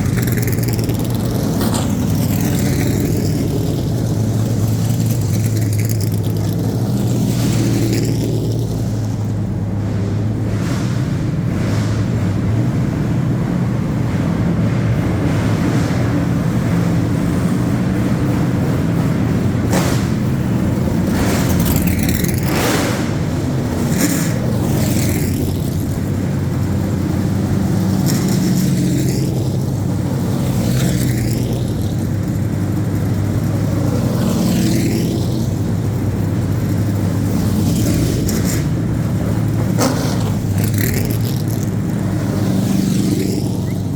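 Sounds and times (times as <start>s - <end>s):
stock car engines passing: 0.0s - 43.9s.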